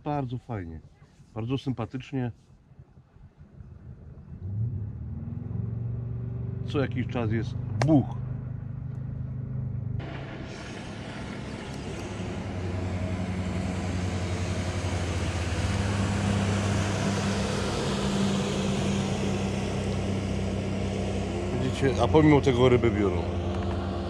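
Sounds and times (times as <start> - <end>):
jet ski engine droning: 4.2 - 24.0.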